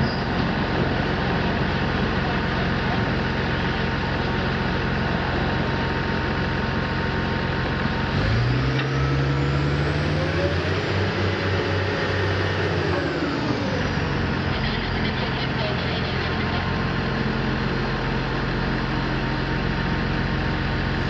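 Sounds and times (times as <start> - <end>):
diesel engine revving: 0.0 - 21.0.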